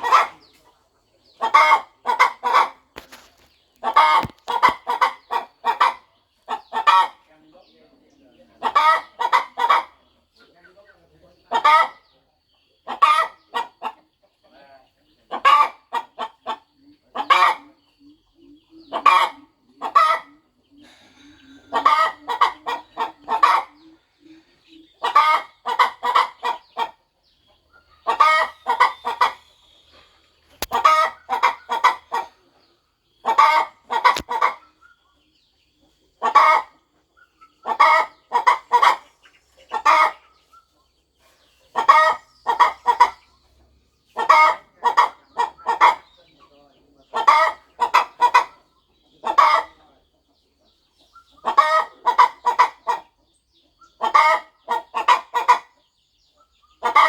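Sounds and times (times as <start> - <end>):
hen clucking: 0.0 - 57.0.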